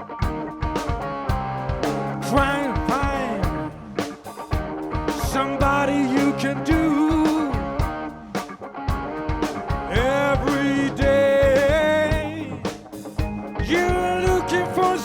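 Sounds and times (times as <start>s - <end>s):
blues guitar bending lines: 0.0s - 15.0s
drum kit beats: 0.0s - 15.0s.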